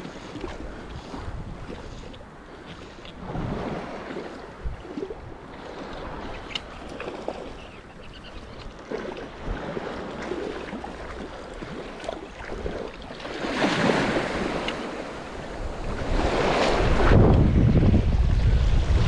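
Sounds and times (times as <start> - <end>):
small surf waves washing in: 0.0 - 19.0.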